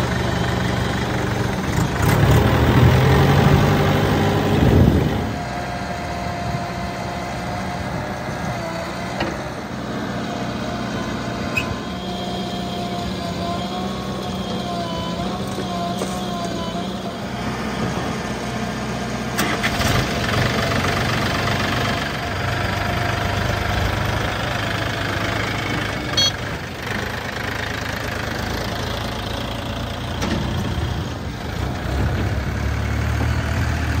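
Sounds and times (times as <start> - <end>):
backhoe diesel engine running: 0.0 - 34.0
tractor diesel engine running: 0.0 - 34.0.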